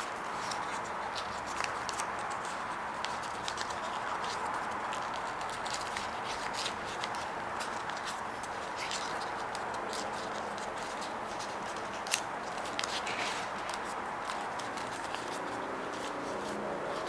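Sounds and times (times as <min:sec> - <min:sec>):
paper crinkling: 0:00.3 - 0:17.0.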